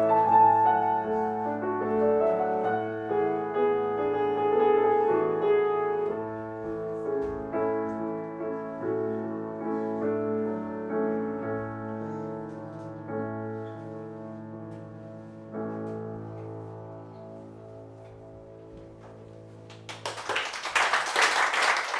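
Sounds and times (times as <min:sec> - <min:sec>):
slow keyboard chords: 0:00.0 - 0:19.9.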